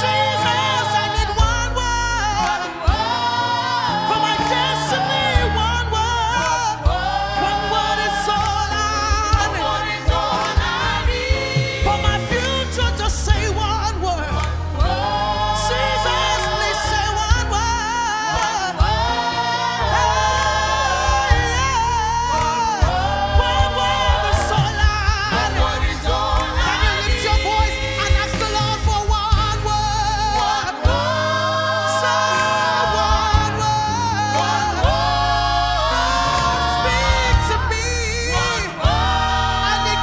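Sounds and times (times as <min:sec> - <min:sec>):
band with bass and drums: 0:00.0 - 0:40.0
voices singing gospel: 0:00.0 - 0:40.0.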